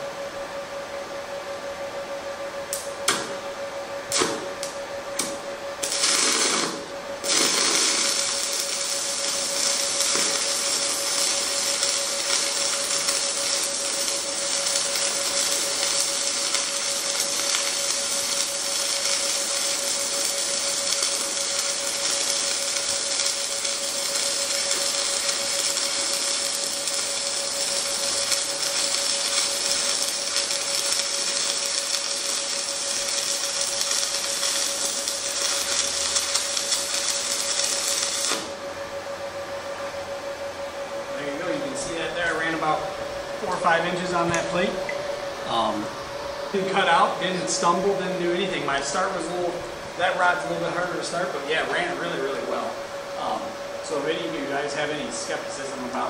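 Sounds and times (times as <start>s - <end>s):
welding arc running: 2.6s - 56.0s
welding arc strikes: 2.7s - 3.5s, 4.1s - 38.7s, 41.2s - 56.0s.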